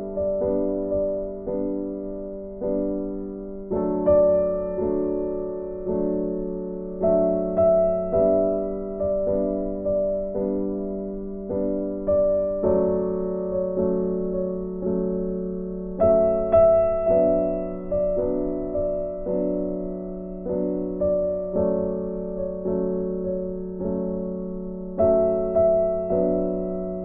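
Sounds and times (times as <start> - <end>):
gentle piano chords: 0.0 - 27.0.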